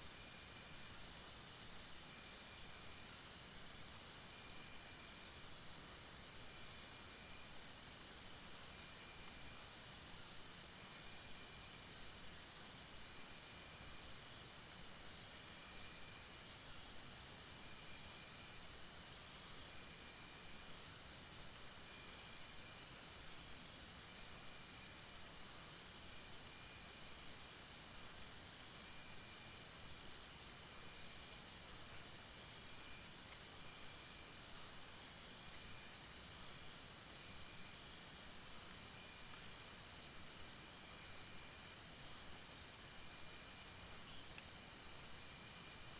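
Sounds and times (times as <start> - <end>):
faint background hiss: 0.0 - 45.9
insects trilling: 0.7 - 45.9.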